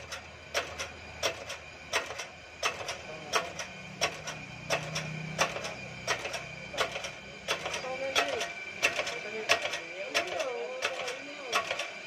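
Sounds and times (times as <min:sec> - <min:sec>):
low hum: 0:00.0 - 0:11.5.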